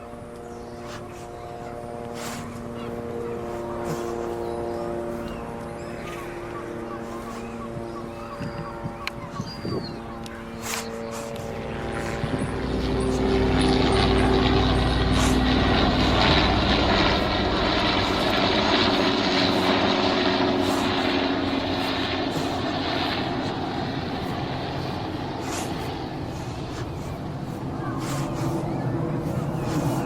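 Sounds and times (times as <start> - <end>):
helicopter passing by: 0.0 - 30.0.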